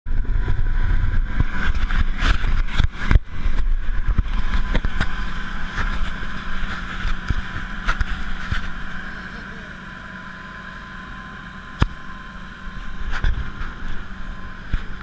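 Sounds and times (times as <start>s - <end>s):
boat engine running: 0.1s - 15.0s.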